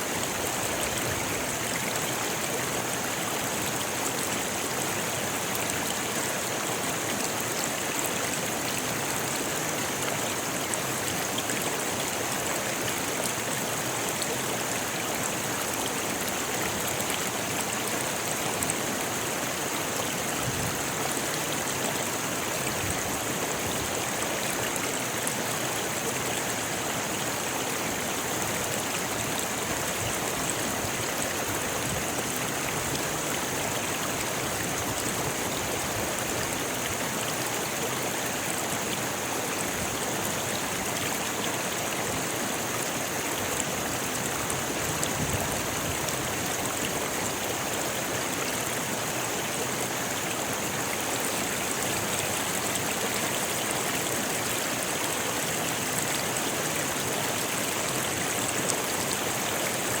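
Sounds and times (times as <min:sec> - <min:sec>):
river flowing over stones: 0:00.0 - 1:00.0.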